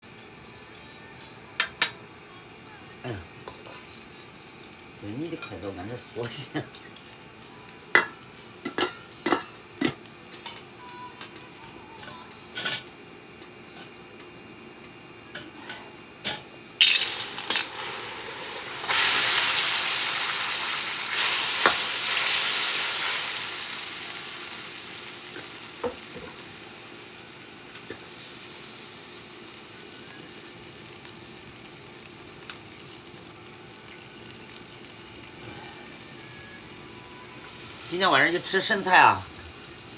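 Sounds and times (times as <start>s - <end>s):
food sizzling in hot oil: 3.3s - 12.2s, 16.8s - 39.9s.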